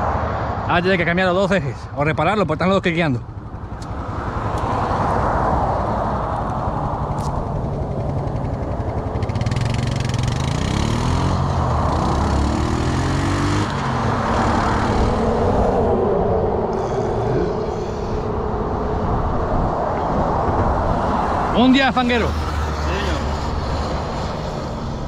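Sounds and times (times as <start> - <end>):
vehicle engine accelerating: 4.0 - 25.0.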